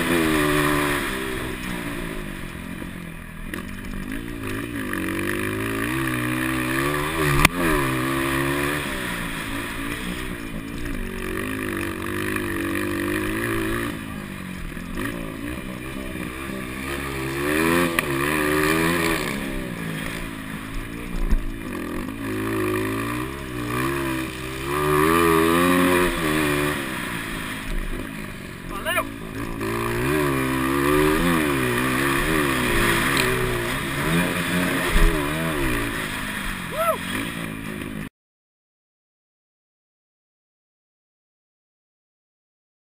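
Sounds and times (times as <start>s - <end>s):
motorcycle engines revving: 0.0s - 38.1s.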